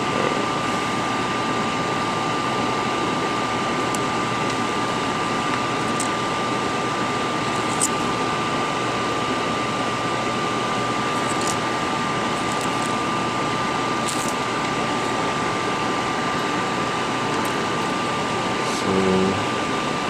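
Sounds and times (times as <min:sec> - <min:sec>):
fan hiss with high whine: 0:00.0 - 0:20.0.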